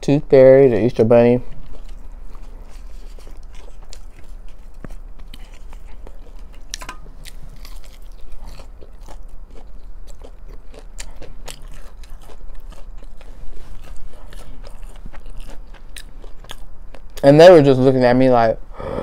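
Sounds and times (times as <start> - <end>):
crunching of crispy coating: 0.6 - 18.0
wet chewing: 0.7 - 17.3.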